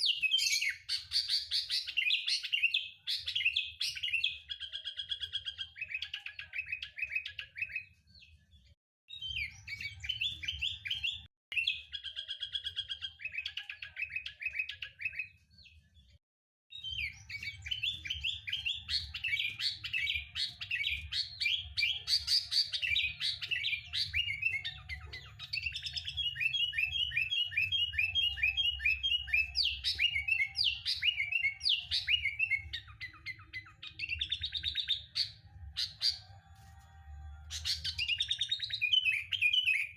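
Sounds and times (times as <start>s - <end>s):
bird chattering song: 0.0s - 8.0s, 9.1s - 15.4s, 16.7s - 36.3s, 37.5s - 39.9s.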